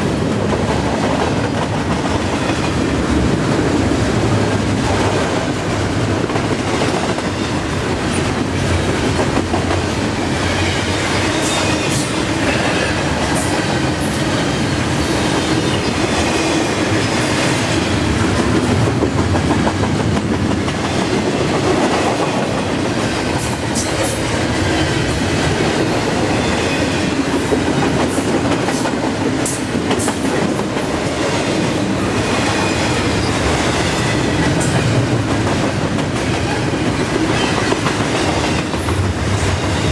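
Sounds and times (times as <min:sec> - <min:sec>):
freight train rumbling past: 0:00.0 - 0:39.9
sharp clicks of train wheels: 0:00.0 - 0:39.9.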